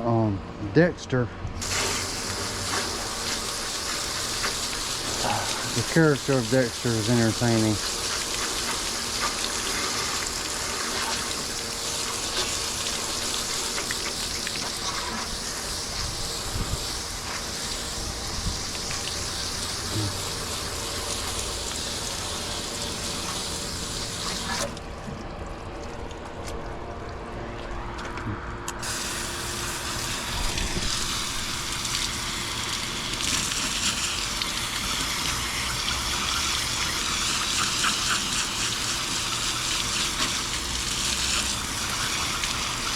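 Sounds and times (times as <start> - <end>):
hose water spraying: 1.6 - 24.8, 28.8 - 42.9.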